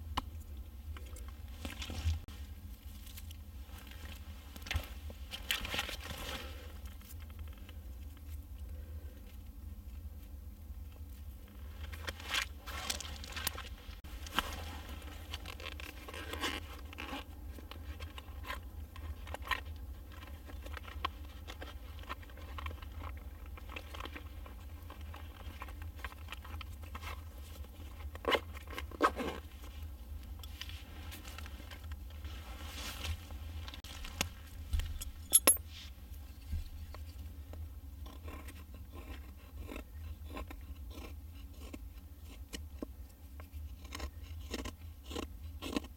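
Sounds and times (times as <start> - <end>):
firewood and gear being handled: 0.0 - 38.4
steady low hum: 0.0 - 45.9.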